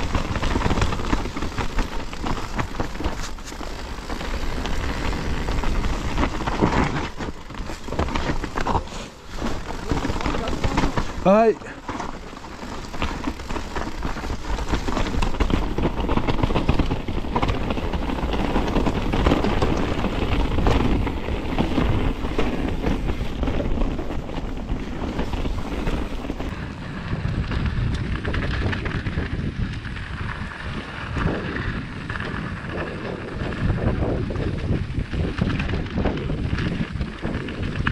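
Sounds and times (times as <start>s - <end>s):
bike rattling over bumps: 0.0s - 37.9s
bike tyres crunching over stones: 0.0s - 37.9s
wind buffeting microphone: 0.0s - 37.9s.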